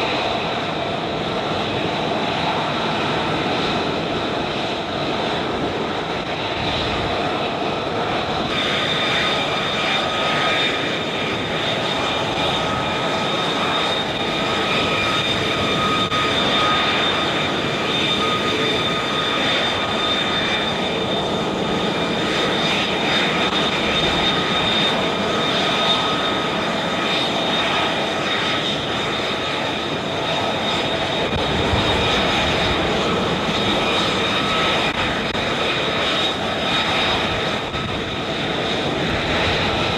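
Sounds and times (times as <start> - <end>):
fighter jet engine roaring and whining: 0.0 - 39.9.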